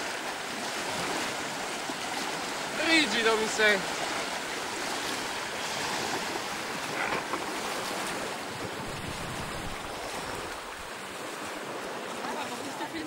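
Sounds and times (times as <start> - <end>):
waves washing against rocks: 0.0 - 13.0.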